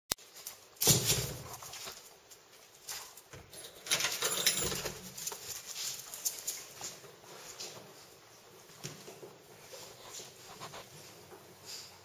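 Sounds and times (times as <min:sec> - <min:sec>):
animals scuffling and rustling: 0:00.2 - 0:12.0.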